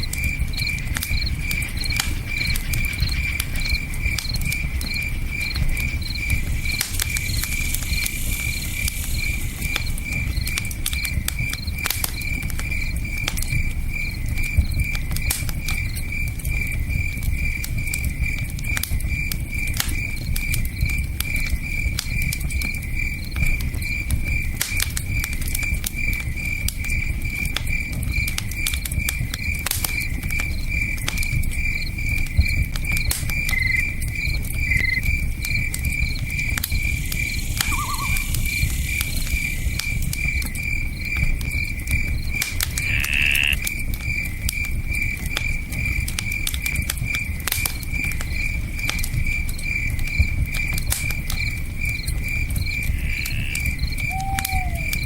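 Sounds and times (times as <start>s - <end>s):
campfire crackling: 0.0s - 55.0s
cricket chirping: 0.0s - 55.0s.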